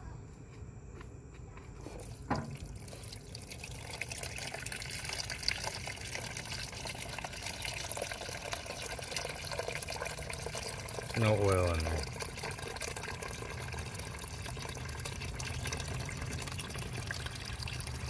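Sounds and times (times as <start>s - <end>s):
liquid pouring into container: 2.0s - 18.0s.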